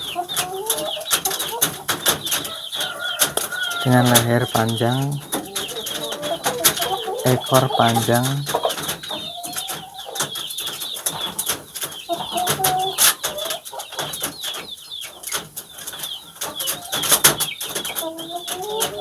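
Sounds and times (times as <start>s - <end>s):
chickens calling: 0.0s - 19.0s
clicks and knocks on cages: 0.0s - 19.0s.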